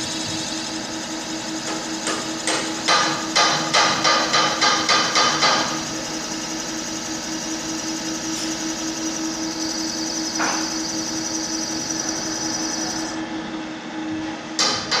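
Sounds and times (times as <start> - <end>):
machine spindle humming: 0.0 - 3.5, 4.1 - 13.6.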